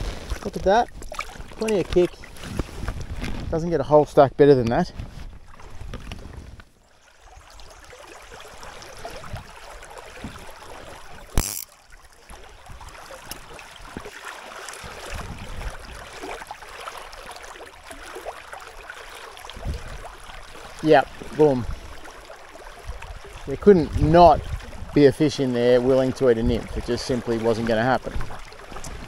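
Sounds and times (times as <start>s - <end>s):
creek water flowing: 0.0s - 3.2s, 5.3s - 29.0s.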